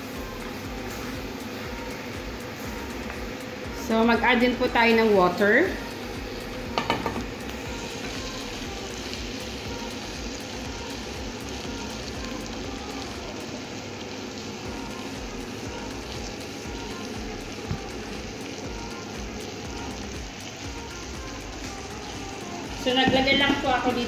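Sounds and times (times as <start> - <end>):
meat and sauce sizzling in a pan: 0.0 - 24.0.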